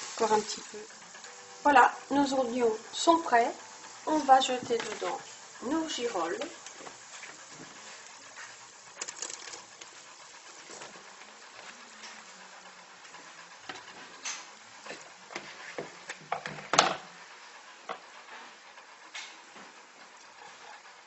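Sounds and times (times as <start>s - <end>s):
onions frying hiss: 0.0s - 19.1s.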